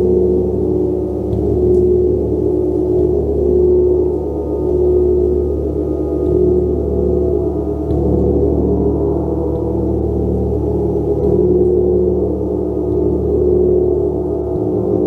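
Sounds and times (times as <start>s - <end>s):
gong ringing: 0.0s - 15.0s.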